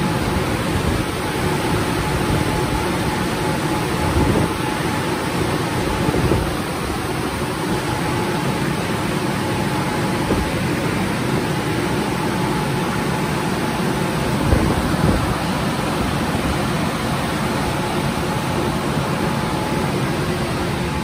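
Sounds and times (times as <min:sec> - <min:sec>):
faint machine whine: 0:00.0 - 0:21.0.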